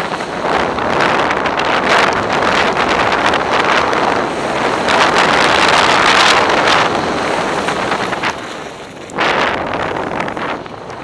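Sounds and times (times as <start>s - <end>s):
skis scraping over snow: 0.0s - 11.0s
wind on camera microphone: 0.0s - 11.0s.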